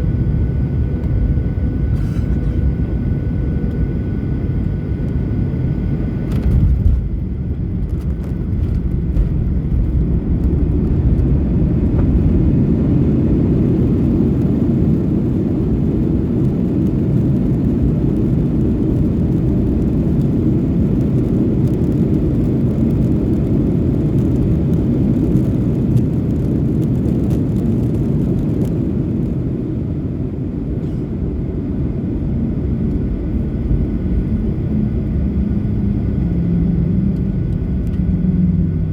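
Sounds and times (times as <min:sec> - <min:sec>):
airliner engines rumbling: 0:00.0 - 0:38.9.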